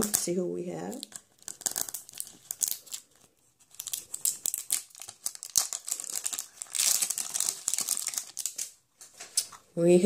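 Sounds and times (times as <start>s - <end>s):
plastic wrapper crinkling: 0.0s - 9.7s.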